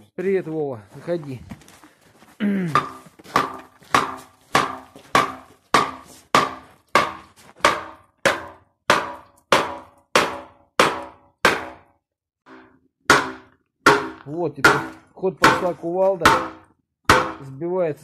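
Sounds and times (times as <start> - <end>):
sledgehammer striking metal: 2.8 - 17.5.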